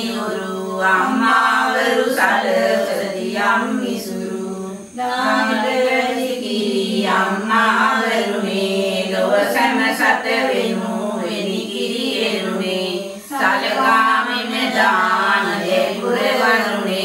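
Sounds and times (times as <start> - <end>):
women leading group chanting: 0.0 - 17.0.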